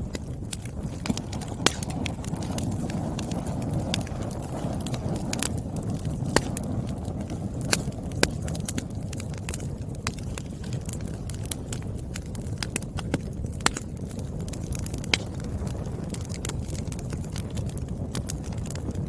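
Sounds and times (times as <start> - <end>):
burning logs crackling and popping: 0.0 - 19.0
flames rumbling: 0.0 - 19.0.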